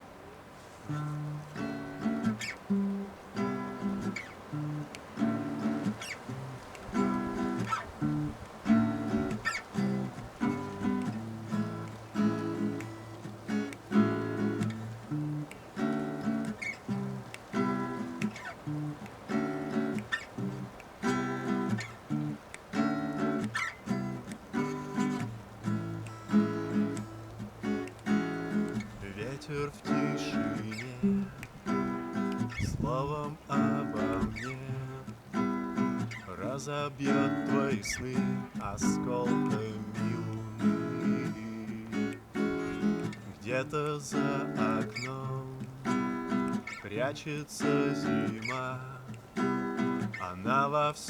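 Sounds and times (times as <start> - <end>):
acoustic guitar strumming chords: 0.8 - 51.0.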